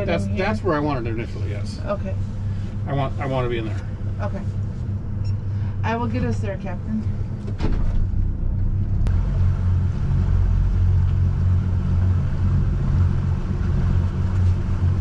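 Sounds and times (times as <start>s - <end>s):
outboard motors droning: 0.0s - 15.0s.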